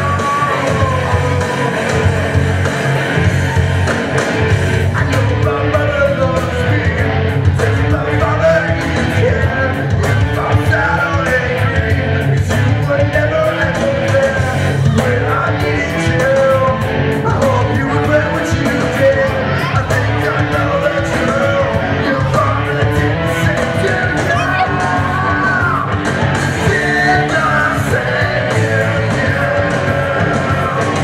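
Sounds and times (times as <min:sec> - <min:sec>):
man singing karaoke: 0:00.0 - 0:31.0
rock backing track: 0:00.0 - 0:31.0.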